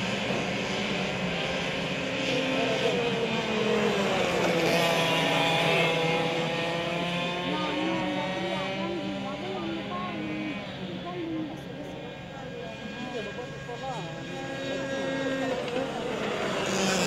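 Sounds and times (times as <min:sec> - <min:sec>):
racing kart engines passing: 0:00.0 - 0:17.0.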